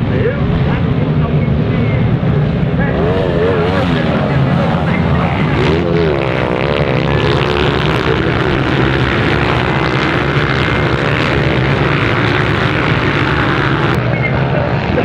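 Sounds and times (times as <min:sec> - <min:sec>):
dirt bike engines racing: 0:00.0 - 0:15.0.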